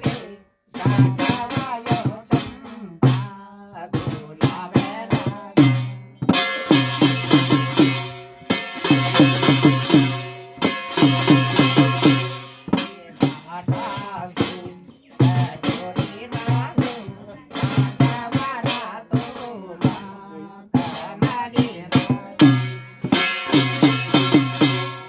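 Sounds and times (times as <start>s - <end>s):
bright percussion layer: 3.9s - 25.0s.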